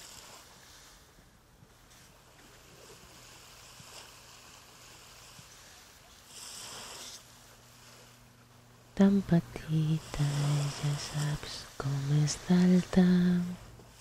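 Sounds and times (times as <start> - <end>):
small waves washing on beach: 0.0 - 8.4, 9.0 - 14.0.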